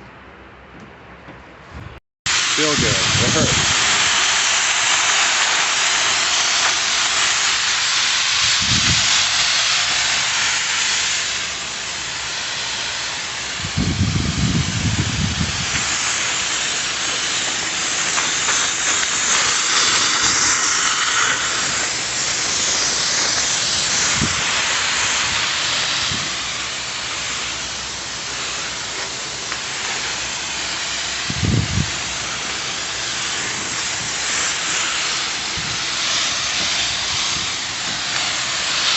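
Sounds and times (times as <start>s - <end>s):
water spray hissing from nozzle: 2.3s - 38.9s.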